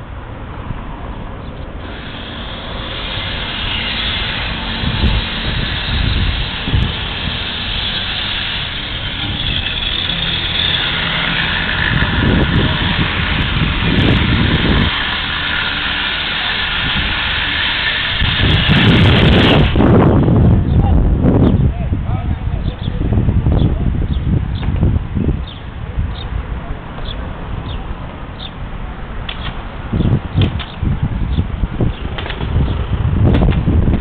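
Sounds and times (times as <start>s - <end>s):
road traffic: 0.0s - 34.0s
vehicles passing rumble: 0.0s - 34.0s.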